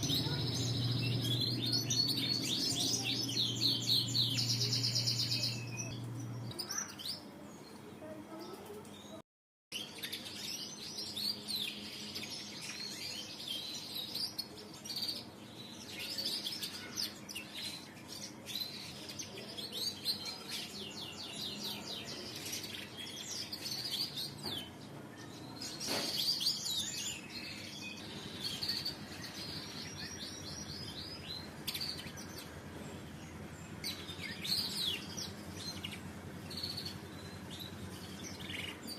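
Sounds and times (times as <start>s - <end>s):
canary singing chirps and trills: 0.0s - 38.9s.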